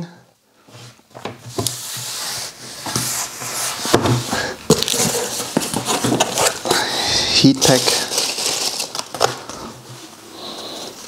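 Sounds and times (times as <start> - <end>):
rustling cardboard box packaging: 1.5 - 11.0.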